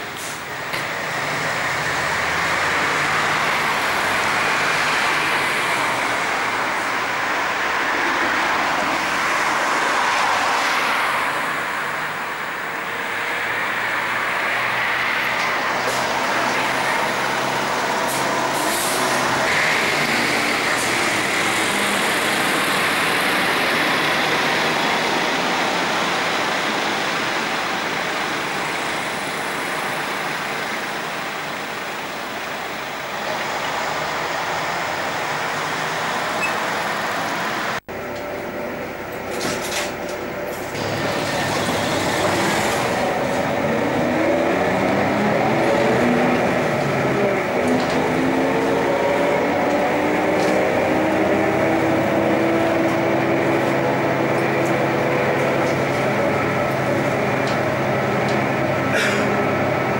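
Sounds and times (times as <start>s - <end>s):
cars and bus in traffic: 0.0s - 59.9s.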